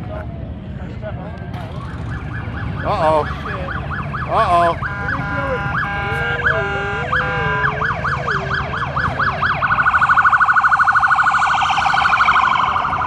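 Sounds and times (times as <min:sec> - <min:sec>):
emergency vehicle siren: 0:01.5 - 0:13.0.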